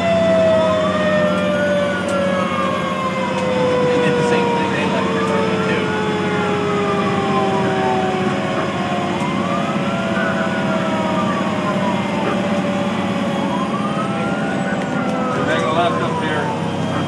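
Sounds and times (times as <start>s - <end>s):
fire engine siren wailing: 0.0s - 17.0s
truck engine and road noise: 0.0s - 17.0s.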